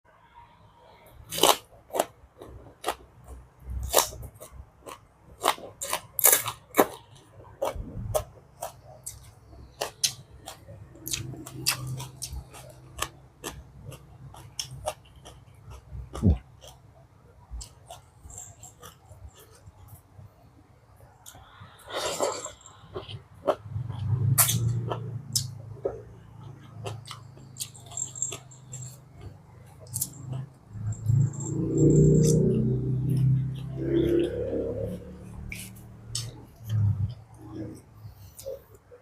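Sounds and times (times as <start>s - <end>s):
crunchy chewing: 1.2s - 20.1s, 21.2s - 38.7s.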